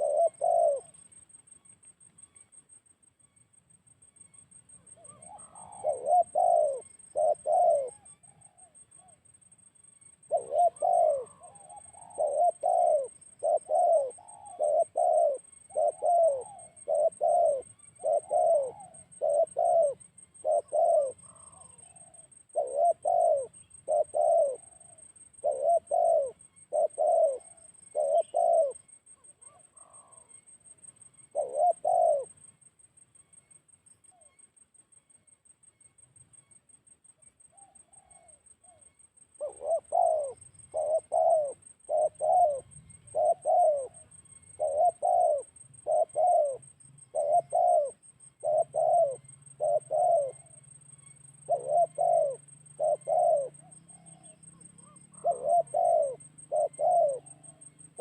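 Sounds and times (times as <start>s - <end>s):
dove cooing: 0.0s - 1.2s, 4.8s - 9.3s, 10.2s - 30.4s, 31.2s - 32.4s, 37.5s - 58.0s.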